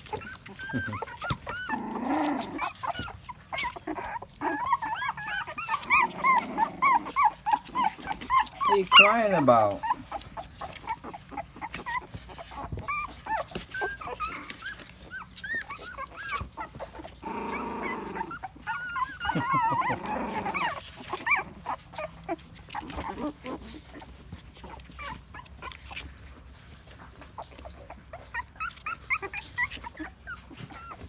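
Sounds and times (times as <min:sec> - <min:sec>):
puppies whimpering and squeaking: 0:00.0 - 0:31.0
puppy growl: 0:00.0 - 0:31.0.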